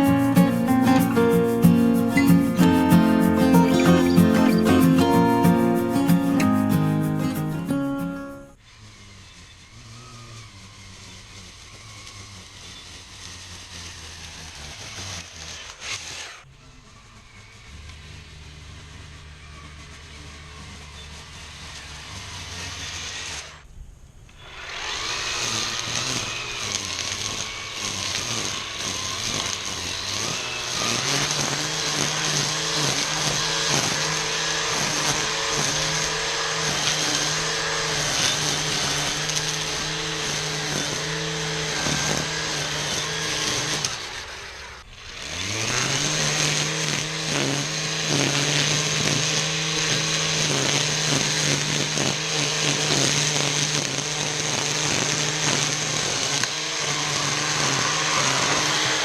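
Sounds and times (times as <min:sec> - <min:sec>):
string trimmer cutting weeds: 0:00.0 - 0:16.5, 0:17.8 - 0:23.7, 0:24.3 - 0:59.0.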